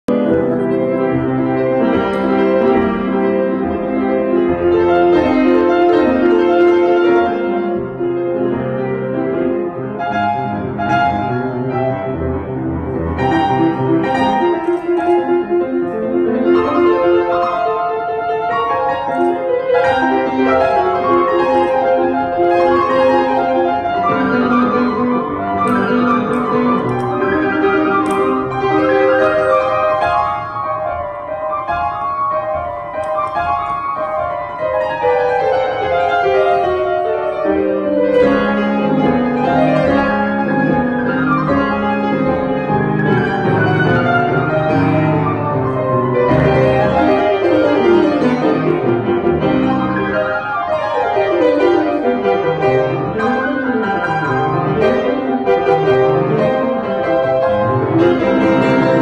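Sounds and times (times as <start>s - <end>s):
piano piece: 0.0s - 59.0s.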